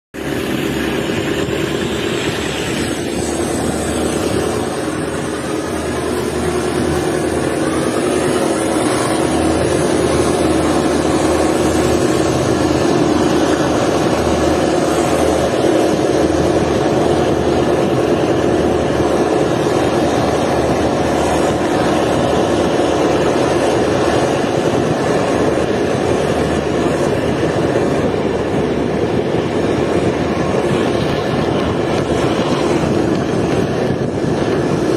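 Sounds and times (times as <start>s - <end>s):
diesel locomotive engine: 0.1s - 34.9s.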